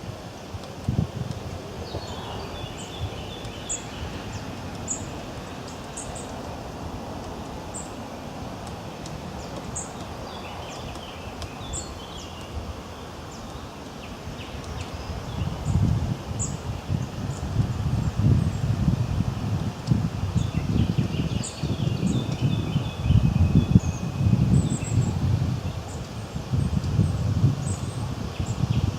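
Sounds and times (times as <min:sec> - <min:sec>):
birds calling and twittering: 0:00.0 - 0:18.8, 0:19.8 - 0:28.9
rustling leaves: 0:00.0 - 0:28.9
wind: 0:00.0 - 0:28.9.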